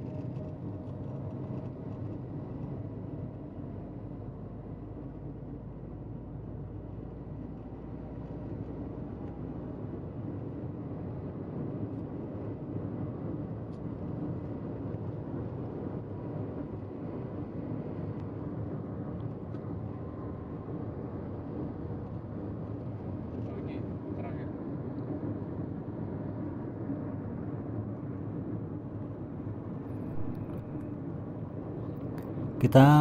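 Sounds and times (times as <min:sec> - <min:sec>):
wind: 0:00.0 - 0:33.0.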